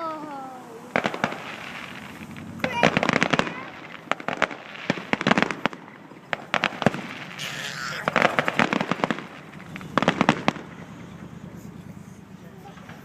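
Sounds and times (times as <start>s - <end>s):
firework hiss: 0.0s - 13.0s
fireworks crackling: 0.0s - 13.0s.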